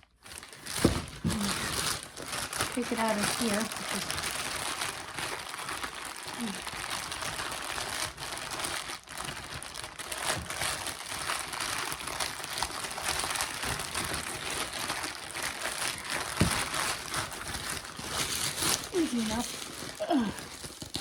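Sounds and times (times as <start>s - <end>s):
packaging crinkling and rustling: 0.0s - 21.0s.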